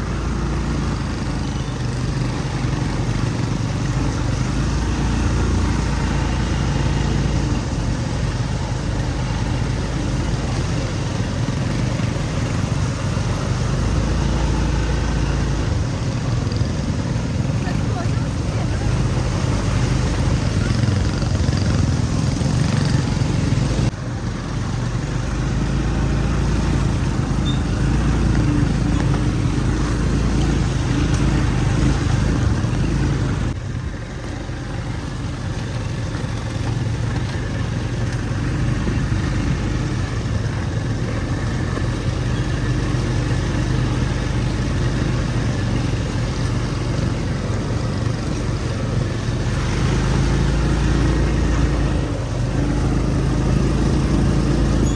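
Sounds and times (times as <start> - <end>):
road and wind noise: 0.0 - 54.9
vehicle engine running: 0.0 - 54.9.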